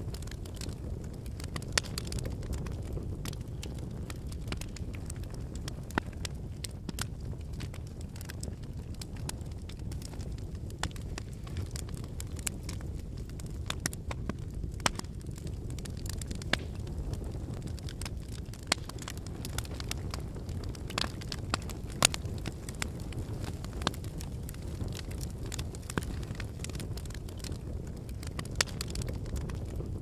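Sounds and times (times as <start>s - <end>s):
campfire flame rushing: 0.0s - 30.0s
firewood crackling and popping: 0.0s - 30.0s.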